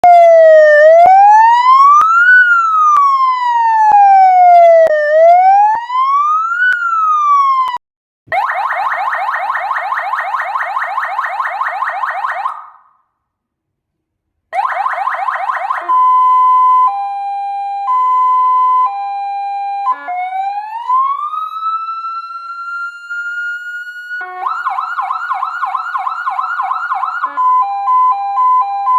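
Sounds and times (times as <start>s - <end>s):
electronic siren wailing and yelping: 0.0s - 12.9s, 14.6s - 28.9s.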